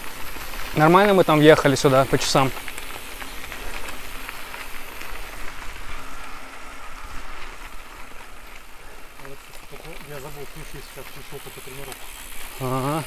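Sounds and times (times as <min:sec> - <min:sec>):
bike tyres crackling on dirt: 0:00.0 - 0:13.0.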